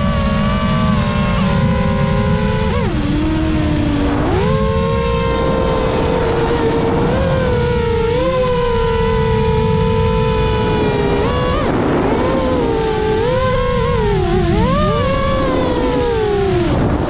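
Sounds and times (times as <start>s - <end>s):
drone motors whining: 0.0s - 17.0s
heavy low rumble: 0.0s - 17.0s.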